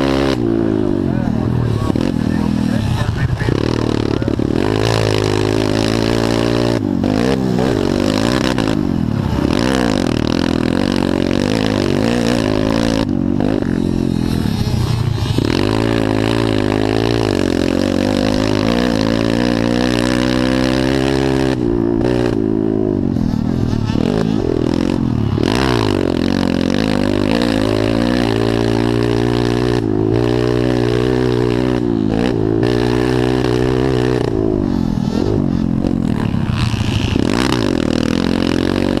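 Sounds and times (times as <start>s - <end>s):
pit bike engines revving: 0.0s - 39.0s.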